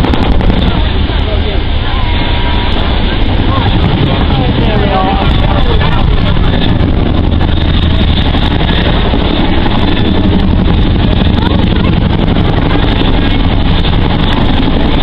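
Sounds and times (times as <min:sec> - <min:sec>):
helicopter engines rushing: 0:00.0 - 0:15.0
helicopter rotor blades beating: 0:00.0 - 0:15.0.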